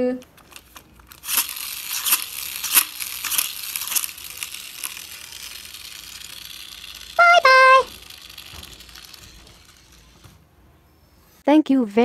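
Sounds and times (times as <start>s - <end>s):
plastic toy parts clicking: 0.0s - 10.3s.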